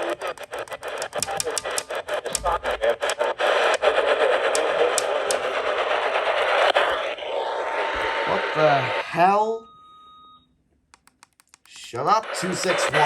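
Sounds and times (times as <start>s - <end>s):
radio static hiss with clicks: 0.0s - 9.4s, 11.0s - 13.0s.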